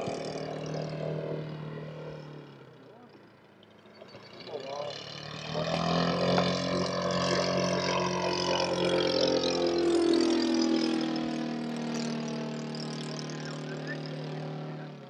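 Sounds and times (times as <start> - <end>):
model plane engine droning: 0.0 - 15.0.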